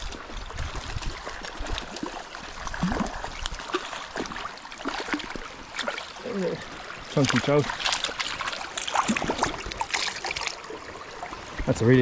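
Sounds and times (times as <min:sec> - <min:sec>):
fish splashing: 0:00.0 - 0:11.6
river flowing: 0:00.0 - 0:12.0.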